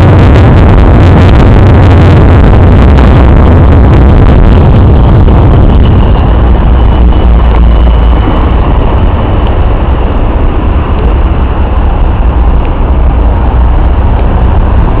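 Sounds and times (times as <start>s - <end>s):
faint high whine: 0.0s - 15.0s
low rumble of city traffic: 0.0s - 15.0s.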